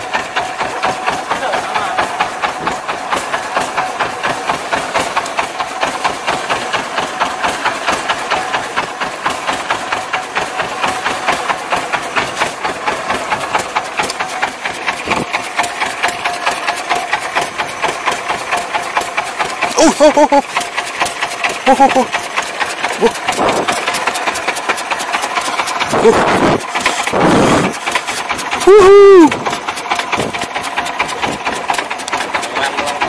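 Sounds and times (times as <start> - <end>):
boat engine putt-putt: 0.0 - 33.0.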